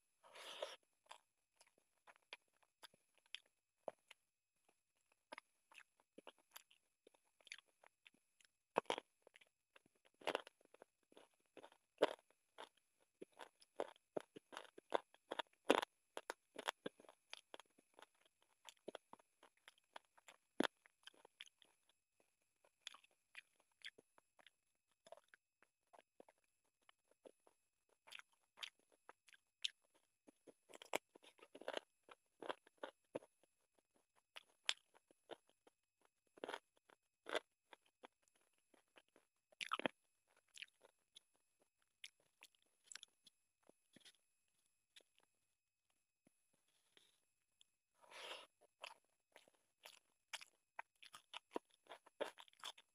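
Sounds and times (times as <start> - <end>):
person chewing and biting food: 0.3 - 4.2, 5.3 - 21.9, 22.6 - 44.2, 48.0 - 52.9.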